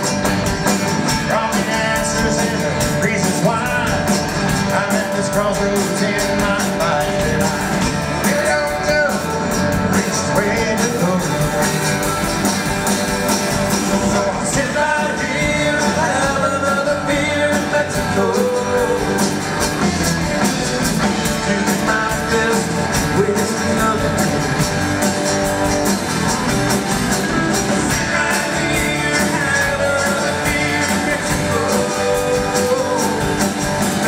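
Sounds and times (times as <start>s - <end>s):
electric bass: 0.0s - 34.0s
steady drum beat: 0.0s - 34.0s
strummed acoustic guitar: 0.0s - 34.0s
person singing: 1.1s - 12.3s, 13.8s - 24.8s, 27.0s - 34.0s.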